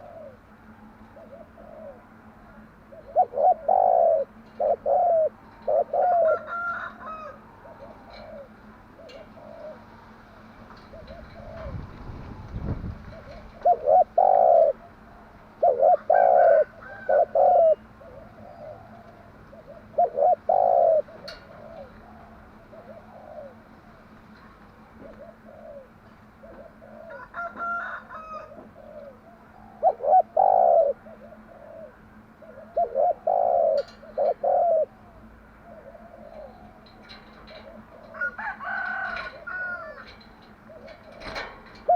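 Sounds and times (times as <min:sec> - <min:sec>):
dove cooing: 0:00.0 - 0:41.9
faint coos of other doves: 0:00.0 - 0:41.9.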